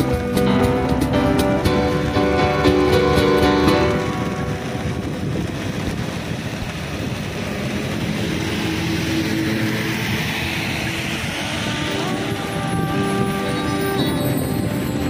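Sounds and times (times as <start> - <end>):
rain hiss: 0.0 - 15.0
truck driving past: 0.0 - 15.0
tyres on wet road: 0.0 - 15.0.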